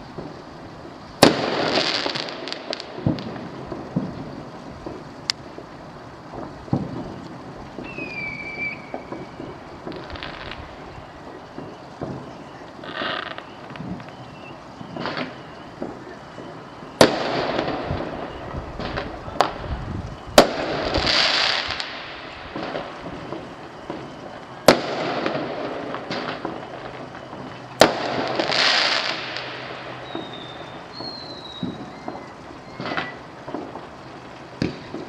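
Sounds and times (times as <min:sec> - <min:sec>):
firework bangs: 0:00.0 - 0:35.0
firework crackling: 0:00.0 - 0:35.0
small firework pops: 0:00.0 - 0:35.0.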